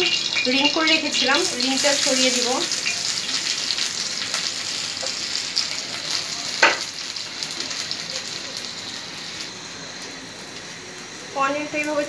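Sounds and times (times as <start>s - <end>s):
onion rings sizzling in hot fat: 0.0s - 12.0s.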